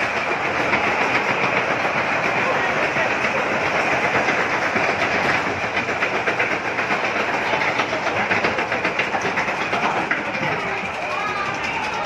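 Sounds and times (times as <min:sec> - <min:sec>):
fast even clacks: 0:00.0 - 0:12.0
ride car rumbling on track: 0:00.0 - 0:12.0.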